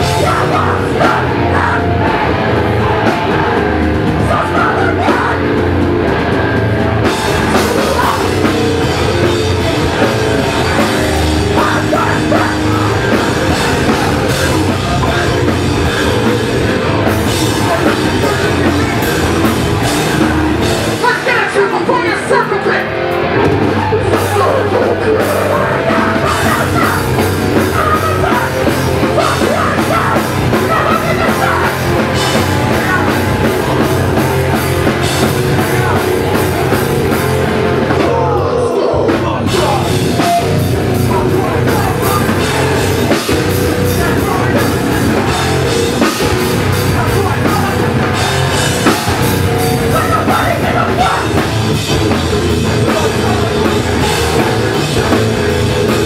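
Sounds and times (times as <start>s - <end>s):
hardcore band playing live: 0.0s - 56.0s.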